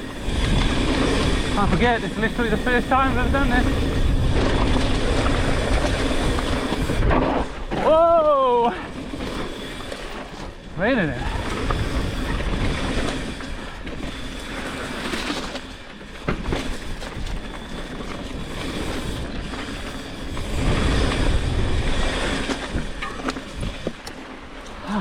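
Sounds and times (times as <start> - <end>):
wind rumble on microphone: 0.0 - 9.4, 11.1 - 15.6, 16.2 - 24.2
bike knocking and rattling: 0.0 - 24.9.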